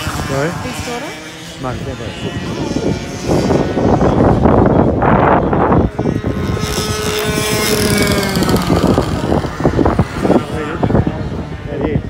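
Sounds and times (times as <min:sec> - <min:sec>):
go-kart engines passing: 0:00.0 - 0:12.0
wind buffeting microphone: 0:00.0 - 0:12.0.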